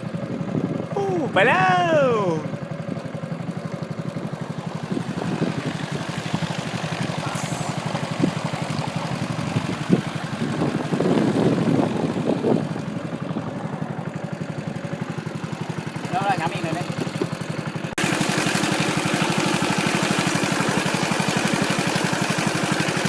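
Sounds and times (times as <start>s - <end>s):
small boat engine puttering: 0.0s - 23.0s.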